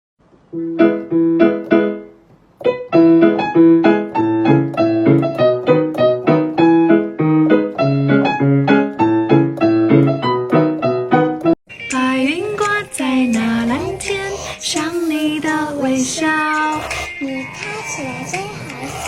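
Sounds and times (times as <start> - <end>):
piano music: 0.5 - 19.0.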